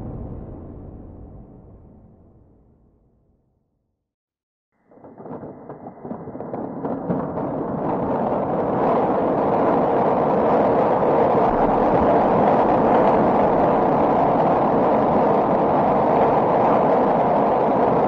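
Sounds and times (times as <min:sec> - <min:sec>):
rolling thunder: 0:00.0 - 0:03.0, 0:04.8 - 0:18.0.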